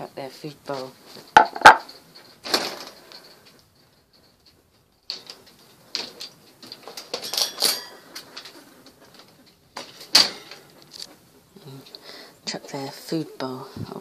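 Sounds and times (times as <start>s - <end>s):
clicks and rattles in wire cage: 0.7s - 12.0s.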